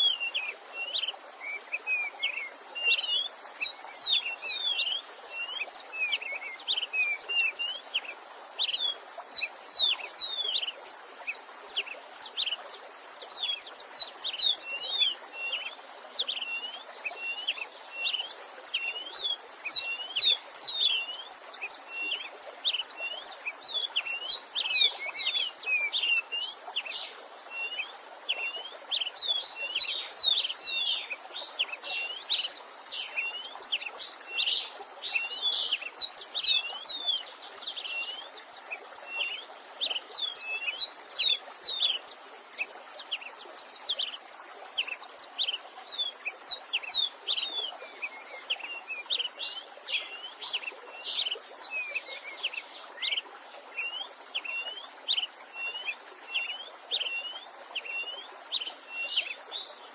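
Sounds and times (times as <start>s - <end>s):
faint rush of a stream: 0.0s - 59.9s
songbirds chirping and singing: 0.0s - 59.9s.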